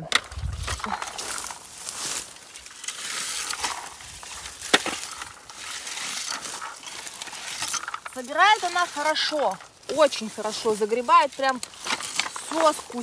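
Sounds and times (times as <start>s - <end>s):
berry picker rustling shrubs: 0.0s - 13.0s.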